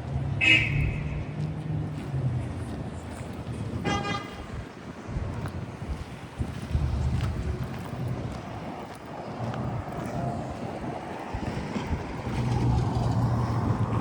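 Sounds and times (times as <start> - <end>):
traffic noise: 0.0 - 14.0
wind buffeting microphone: 0.0 - 14.0.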